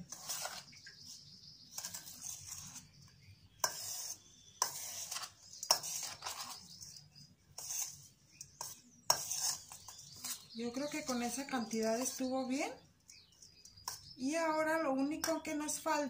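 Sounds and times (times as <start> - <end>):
spoon scraping crumbly mix: 0.0 - 15.8.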